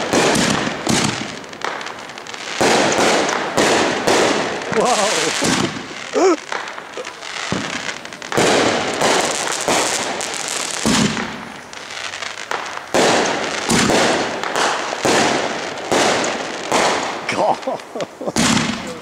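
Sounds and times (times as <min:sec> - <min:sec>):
firework bangs: 0:00.0 - 0:19.0
firework crackling: 0:00.0 - 0:19.0.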